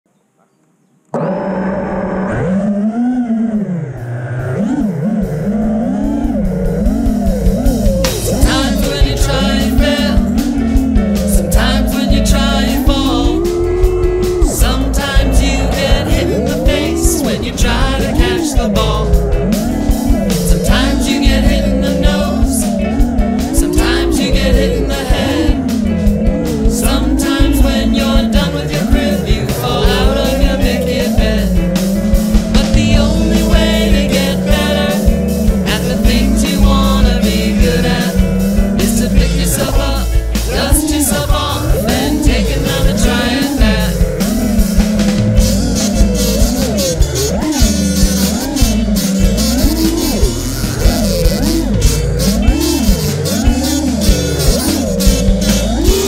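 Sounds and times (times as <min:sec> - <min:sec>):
rock song with singing: 0:06.4 - 0:56.0.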